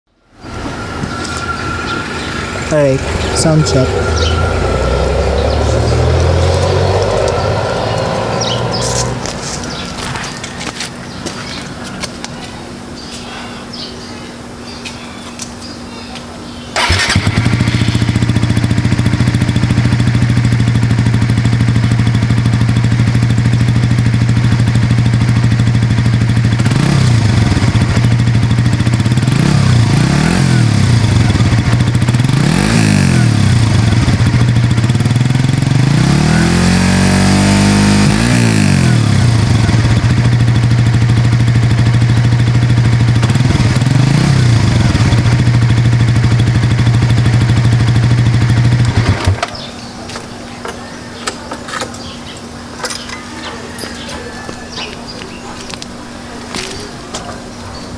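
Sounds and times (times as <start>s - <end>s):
motorcycle engine revving: 0.3s - 12.2s, 16.8s - 57.9s
motorcycle engine idling: 1.4s - 13.2s, 16.8s - 57.9s.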